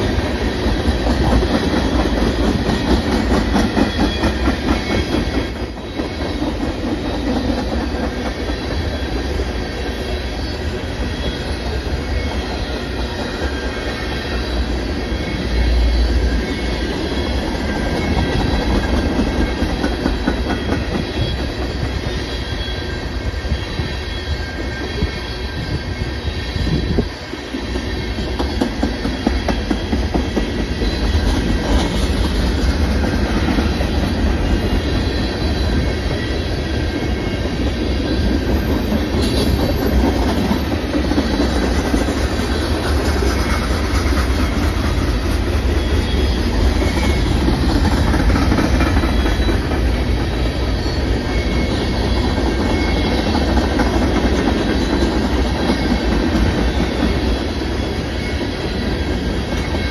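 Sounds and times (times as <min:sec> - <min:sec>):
high wheel squeal: 0:00.0 - 0:59.9
steel wheels rumbling on rails: 0:00.0 - 0:59.9.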